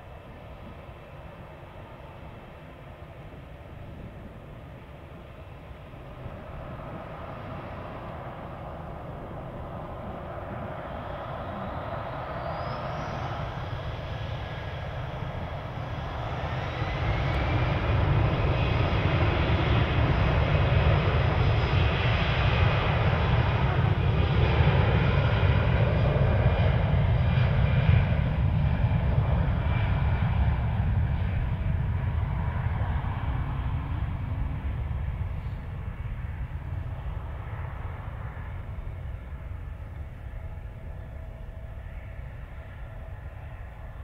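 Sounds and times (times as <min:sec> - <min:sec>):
jet engines at takeoff: 0:00.0 - 0:44.0.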